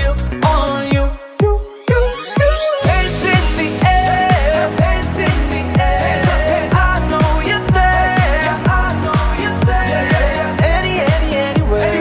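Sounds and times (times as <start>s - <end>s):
upbeat electronic pop music: 0.0s - 12.0s.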